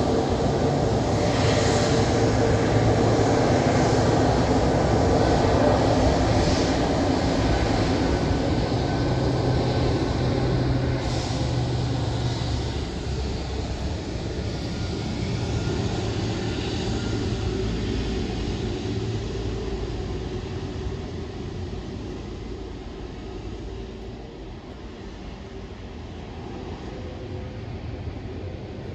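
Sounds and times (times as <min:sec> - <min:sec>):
jet engine rumble: 0:00.0 - 0:28.9.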